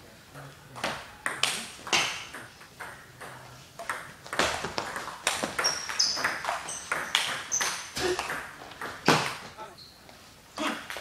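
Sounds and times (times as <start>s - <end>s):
distant table tennis rally: 0.0s - 11.0s.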